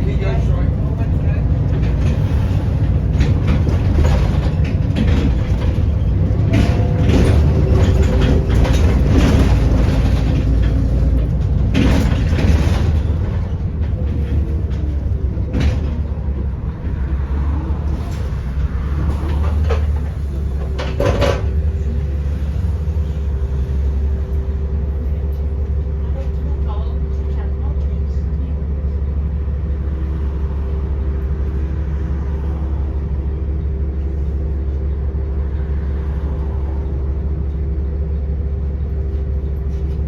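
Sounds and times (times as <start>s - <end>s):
bus body rattles and knocks: 0.0s - 40.0s
bus engine rumble: 0.0s - 40.0s.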